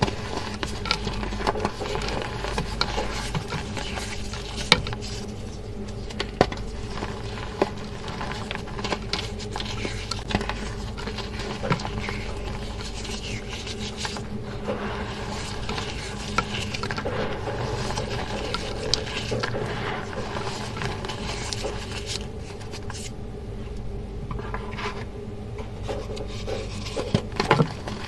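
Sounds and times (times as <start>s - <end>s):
chalk crumbling and crunching: 0.0s - 23.2s.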